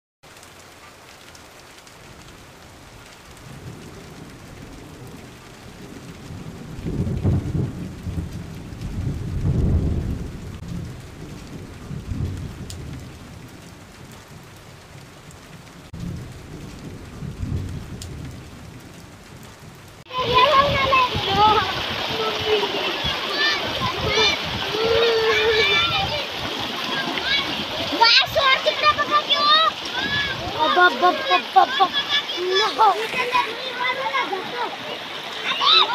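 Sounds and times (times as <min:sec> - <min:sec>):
floodwater running across road: 0:00.2 - 0:35.9
steady rain: 0:00.2 - 0:35.9.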